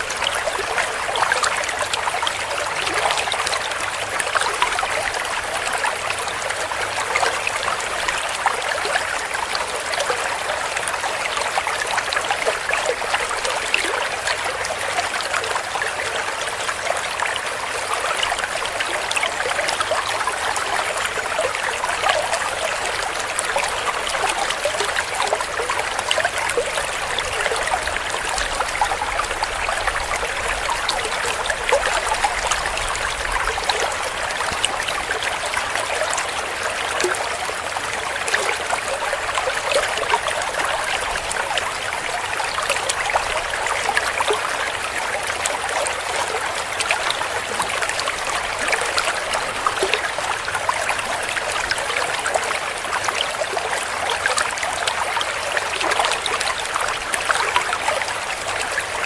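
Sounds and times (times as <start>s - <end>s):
stream gurgling over stones: 0.0s - 59.0s.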